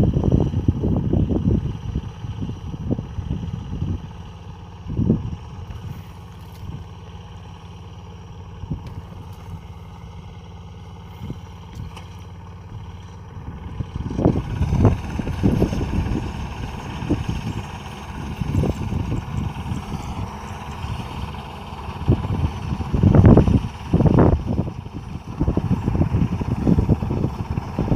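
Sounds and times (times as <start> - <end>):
harvester engine running: 0.0 - 27.9.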